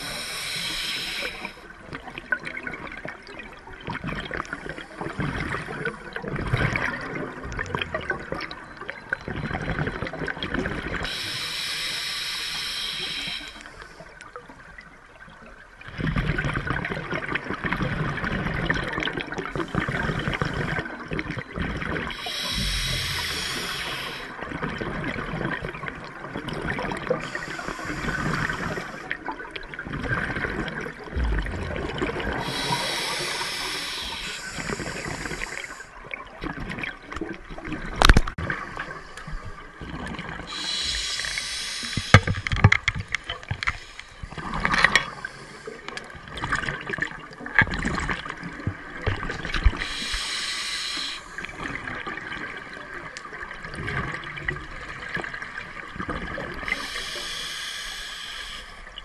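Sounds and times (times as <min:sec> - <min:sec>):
underwater exhaled bubbles rushing: 0:00.0 - 0:13.6, 0:15.8 - 0:59.0.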